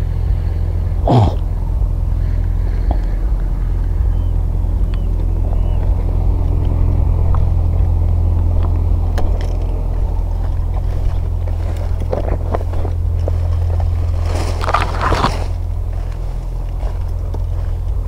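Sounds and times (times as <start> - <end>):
motor engine droning: 0.0 - 18.0.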